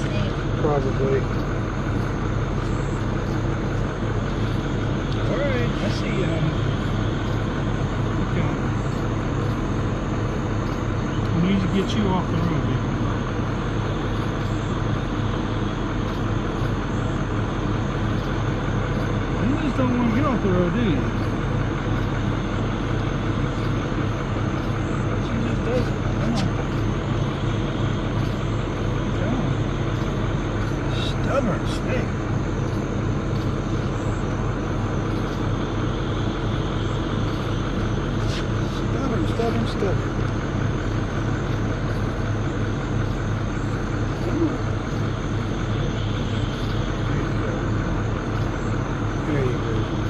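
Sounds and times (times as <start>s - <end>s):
high-pitched drone: 0.0s - 50.0s
truck engine idling: 0.0s - 50.0s.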